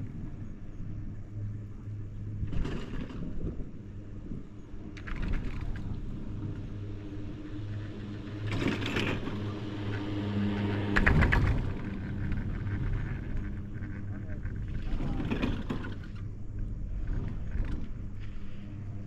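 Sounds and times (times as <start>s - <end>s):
chairlift mechanical hum: 0.0s - 19.0s.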